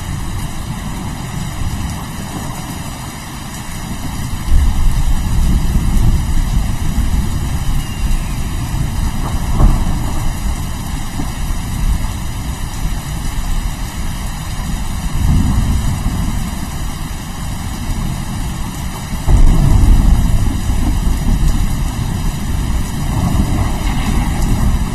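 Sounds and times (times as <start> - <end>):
steady rain: 0.0 - 24.9
thunder rumbling: 0.0 - 24.9.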